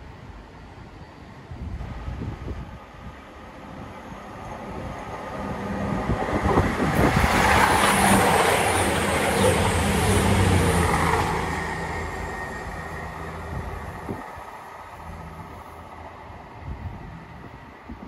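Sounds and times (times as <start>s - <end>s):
train wheels rushing on rails: 1.4s - 18.0s.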